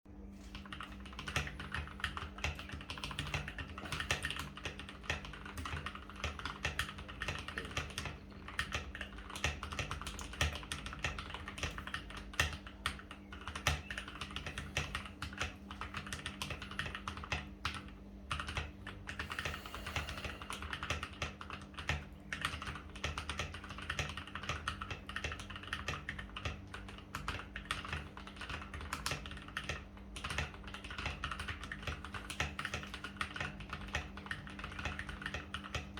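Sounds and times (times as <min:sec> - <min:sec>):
faint steady hum: 0:00.1 - 0:35.9
mechanical keyboard typing: 0:00.4 - 0:35.9.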